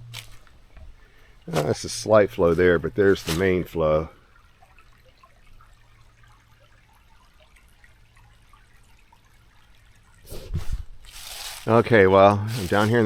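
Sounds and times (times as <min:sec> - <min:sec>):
spring water trickling and dripping: 0:00.0 - 0:13.0.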